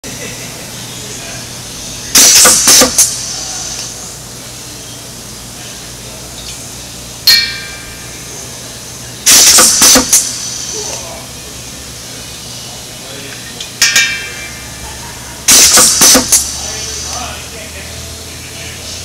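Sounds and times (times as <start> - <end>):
air hissing from valves: 1.1 - 4.6, 5.4 - 18.0.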